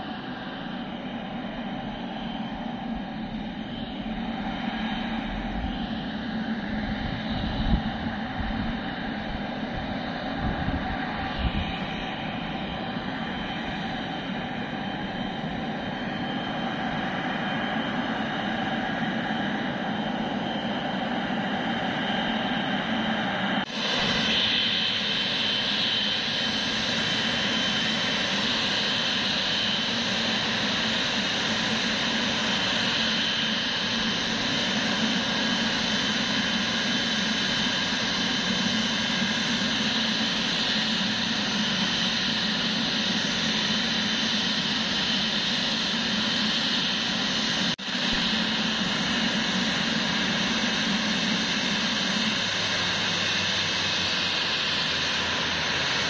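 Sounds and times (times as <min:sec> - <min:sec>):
jet engines running: 0:00.0 - 0:56.0.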